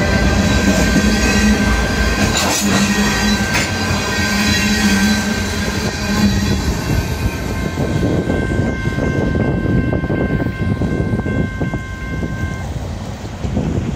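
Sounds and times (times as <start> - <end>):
freight train rumbling past: 0.0 - 13.9
wheels clacking on rail: 0.0 - 13.9.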